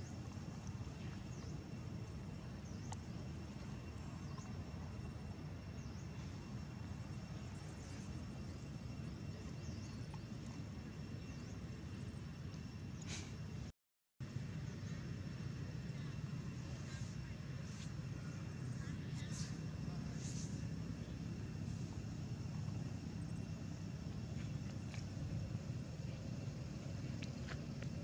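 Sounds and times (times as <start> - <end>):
faint high whine: 0.0 - 28.0.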